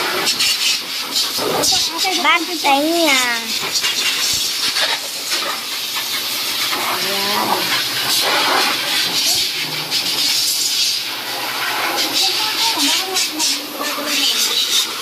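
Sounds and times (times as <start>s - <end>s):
dog dryer blowing air: 0.0s - 15.0s.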